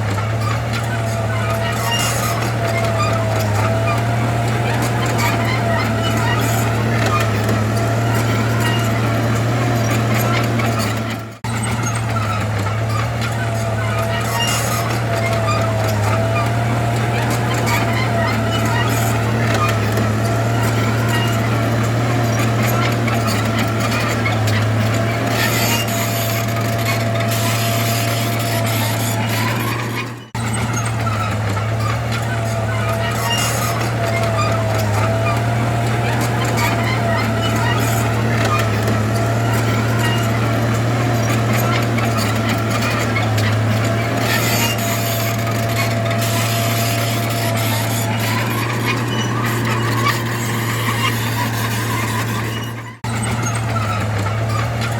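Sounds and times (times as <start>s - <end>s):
dense rattling: 0.0s - 54.9s
heavy machinery diesel engine running: 0.0s - 54.9s.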